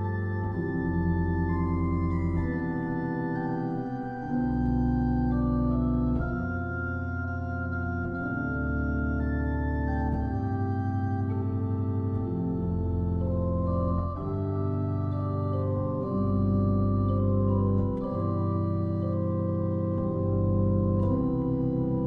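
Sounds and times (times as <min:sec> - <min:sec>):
organ playing slow chords: 0:00.0 - 0:22.0.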